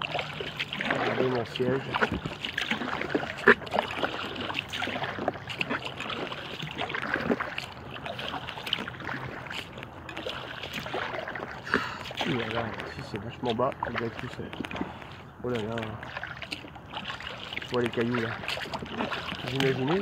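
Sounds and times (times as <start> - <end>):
water splashing and dripping: 0.0 - 20.0.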